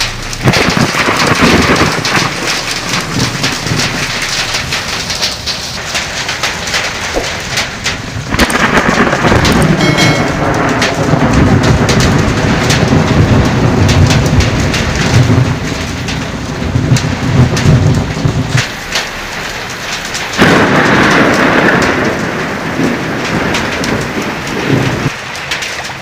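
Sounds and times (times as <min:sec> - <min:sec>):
deep low rumble: 0:00.0 - 0:24.0
hailstones striking: 0:00.0 - 0:26.0
heavy rain hissing: 0:00.0 - 0:26.0.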